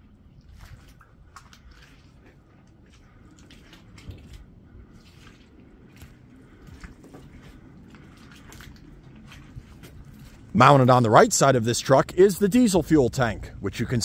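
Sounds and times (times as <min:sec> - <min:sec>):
squelching footsteps in mud: 0:00.0 - 0:13.4
low steady rumble: 0:00.0 - 0:14.0.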